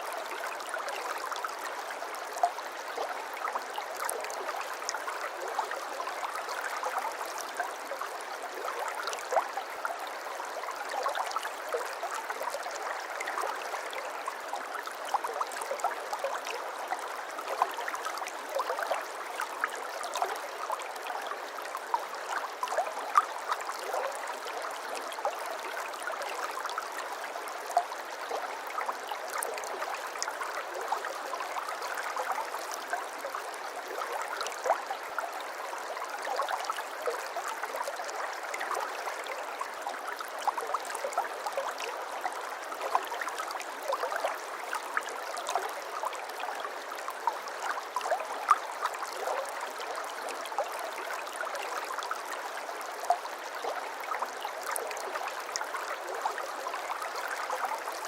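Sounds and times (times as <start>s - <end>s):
stream water babbling: 0.0s - 58.0s.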